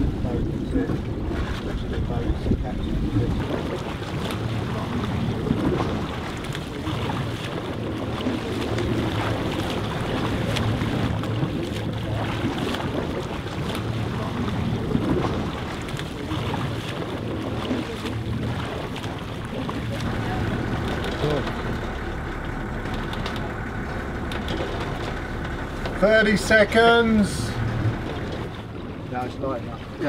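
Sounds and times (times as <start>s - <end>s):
low boat engine hum: 0.0s - 30.0s
sea wash: 0.0s - 30.0s
wind buffeting microphone: 0.0s - 30.0s.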